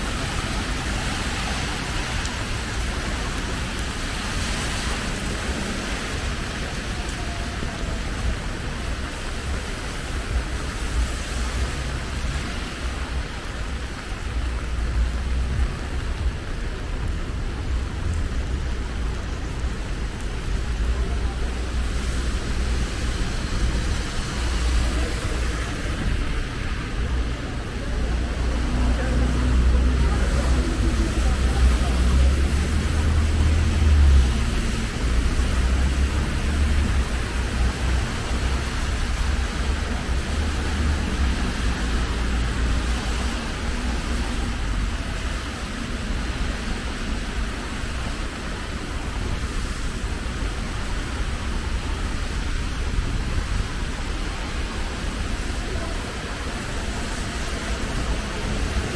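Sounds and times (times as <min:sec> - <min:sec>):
road traffic rumble and hiss: 0:00.0 - 0:58.9.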